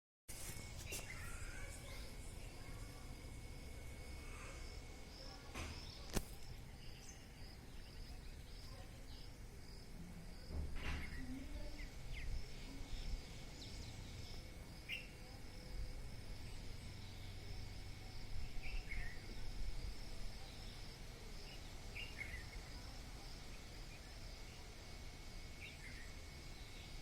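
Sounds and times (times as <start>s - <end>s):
insects chirping trill: 0.3s - 27.0s.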